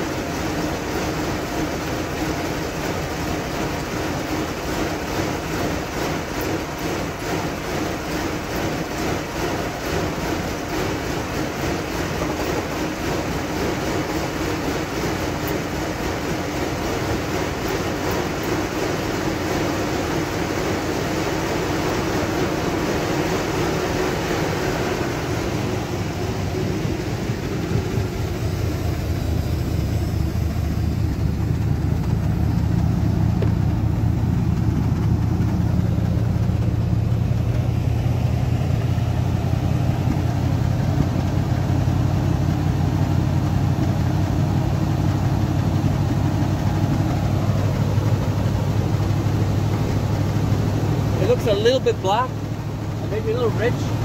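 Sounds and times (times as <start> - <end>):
car engine idling: 0.0 - 54.0
fast light engine ticking: 0.0 - 54.0.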